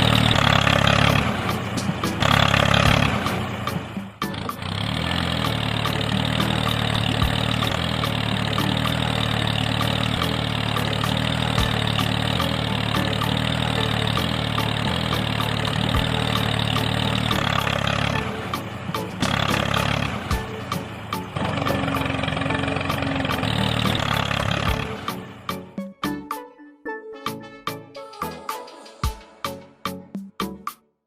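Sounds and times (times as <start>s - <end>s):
small engine idling: 0.0s - 25.8s.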